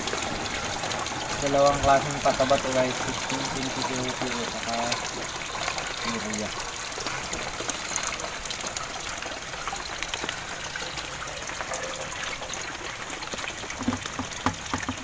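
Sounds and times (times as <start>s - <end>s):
liquid pouring into tank: 0.0s - 15.0s.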